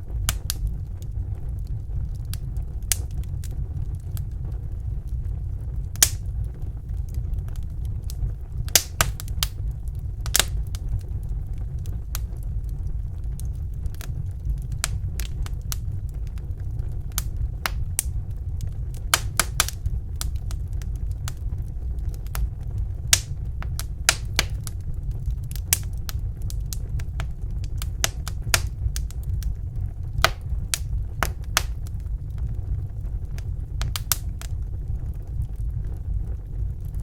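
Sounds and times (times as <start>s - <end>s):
low fire rumble: 0.0s - 37.0s
wood fire popping and snapping: 0.0s - 37.0s.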